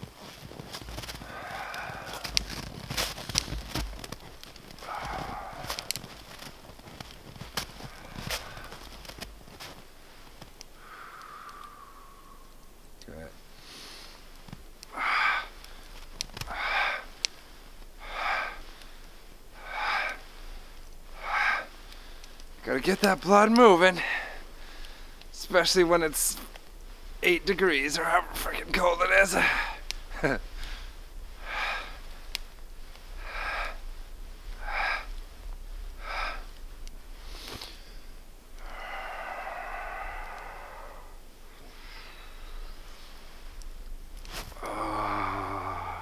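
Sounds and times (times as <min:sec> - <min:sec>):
man breathing forcefully: 0:00.8 - 0:12.7, 0:13.5 - 0:22.6, 0:24.0 - 0:46.0.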